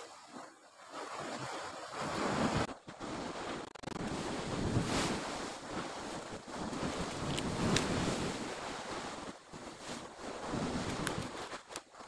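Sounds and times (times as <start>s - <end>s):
sea surf washing in: 1.0s - 11.6s
wind buffeting microphone: 1.9s - 11.7s.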